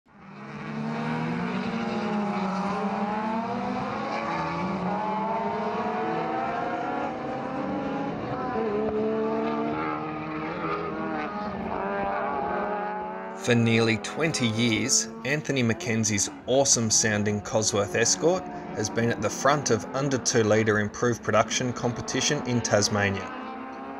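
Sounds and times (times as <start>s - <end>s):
race car engines revving: 0.1s - 23.9s.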